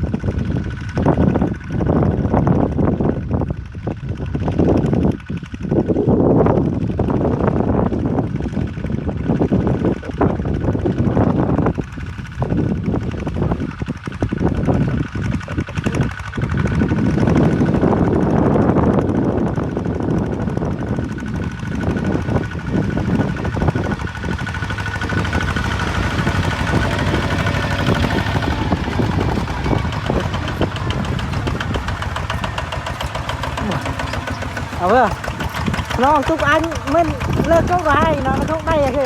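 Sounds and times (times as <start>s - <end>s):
diesel engine chugging: 0.0s - 39.0s.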